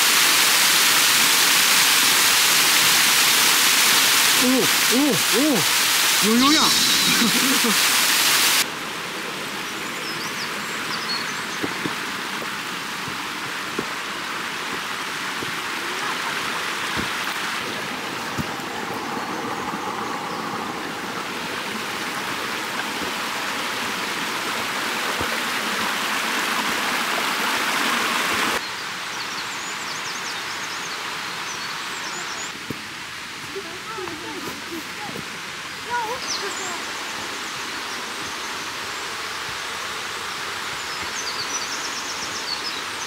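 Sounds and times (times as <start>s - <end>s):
stream rushing: 0.0s - 43.0s.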